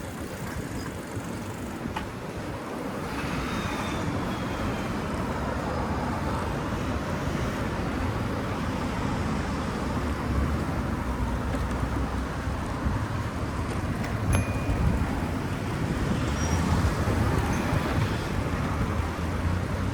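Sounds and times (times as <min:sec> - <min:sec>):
passing traffic: 0:00.0 - 0:19.9
road rumble: 0:00.0 - 0:19.9.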